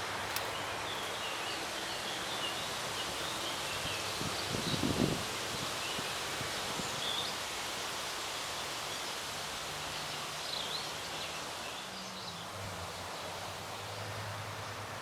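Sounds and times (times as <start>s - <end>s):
wind rustling leaves: 0.0s - 15.0s.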